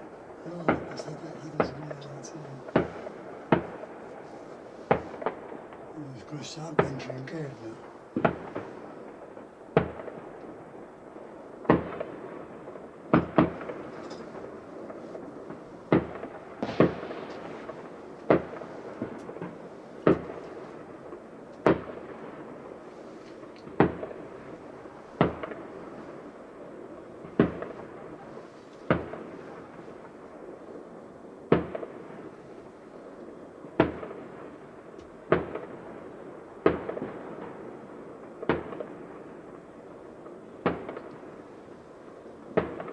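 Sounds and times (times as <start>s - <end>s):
steady background noise: 0.0s - 36.6s
fireworks bursting with bangs: 0.0s - 42.9s.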